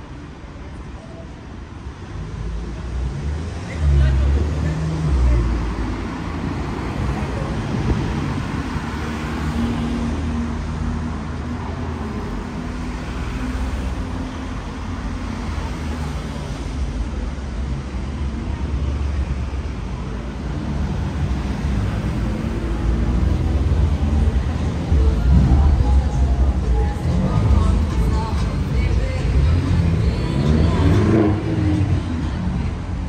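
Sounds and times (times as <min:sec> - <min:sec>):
car engines passing at low speed: 0:02.2 - 0:33.0.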